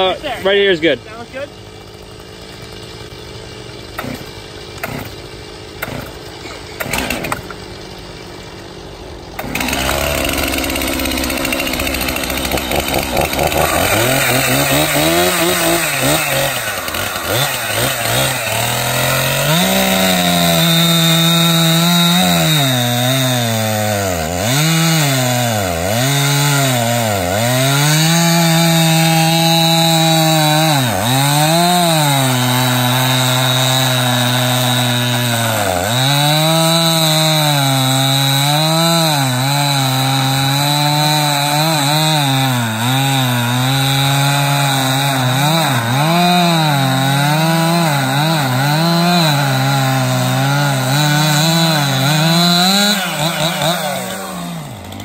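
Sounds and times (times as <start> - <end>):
chainsaw cutting a log: 0.0 - 55.0.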